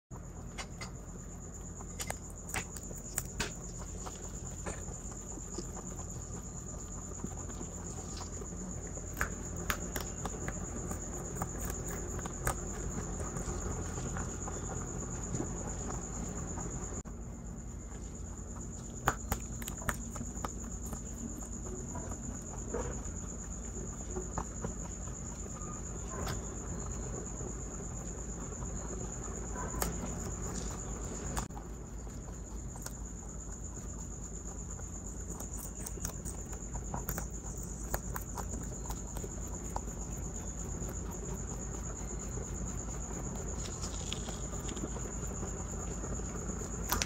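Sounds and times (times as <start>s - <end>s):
rabbits chewing green beans: 0.1s - 47.0s
steady high-pitched whine: 0.1s - 47.0s.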